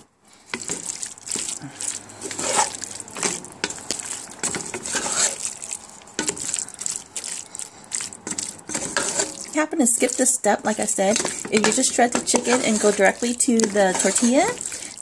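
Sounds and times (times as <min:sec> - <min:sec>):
wet squishing stirring: 0:00.0 - 0:15.0
wooden spoon scraping a pan: 0:00.0 - 0:15.0.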